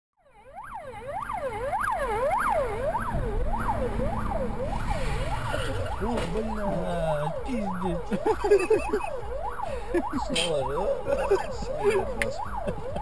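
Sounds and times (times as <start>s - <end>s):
police siren wailing: 0.2s - 13.0s
low rumble of traffic: 0.3s - 13.0s.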